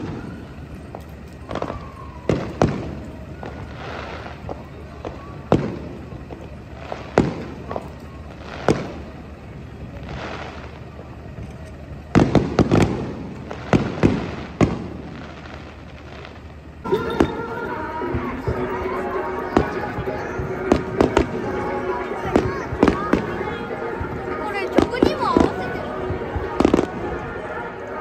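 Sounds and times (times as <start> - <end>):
fireworks booming: 0.0 - 28.0.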